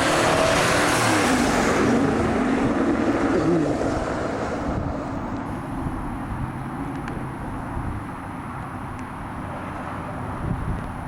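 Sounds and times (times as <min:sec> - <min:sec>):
wind noise: 0:00.1 - 0:11.0.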